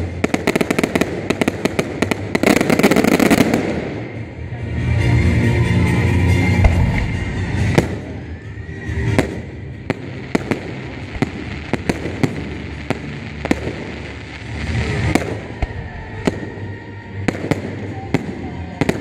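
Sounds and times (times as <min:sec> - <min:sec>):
fireworks bursting: 0:00.0 - 0:04.4, 0:06.4 - 0:19.0.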